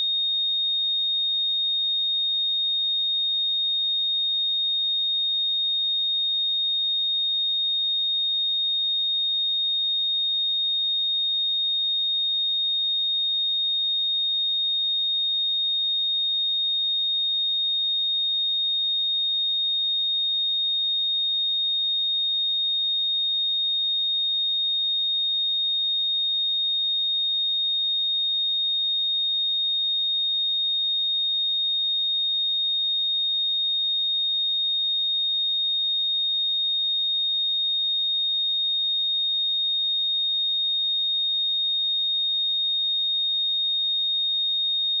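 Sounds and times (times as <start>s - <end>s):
high-pitched sine-wave test tone: 0.0s - 45.0s.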